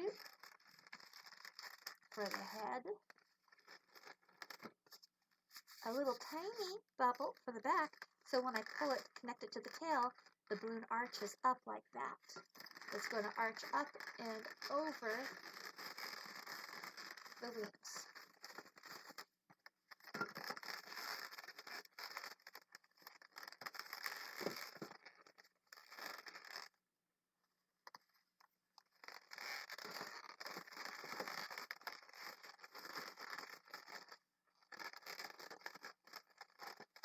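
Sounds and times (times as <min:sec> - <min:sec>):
balloons rubbing and scraping: 0:00.0 - 0:26.7, 0:28.9 - 0:37.0.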